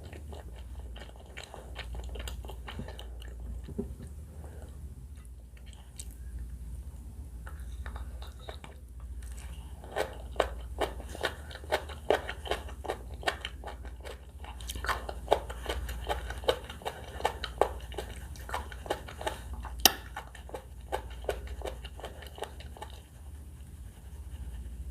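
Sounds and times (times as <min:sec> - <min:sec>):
crisp moist chewing crunches: 0:00.0 - 0:06.6, 0:07.5 - 0:23.6
low steady hum: 0:00.0 - 0:24.9.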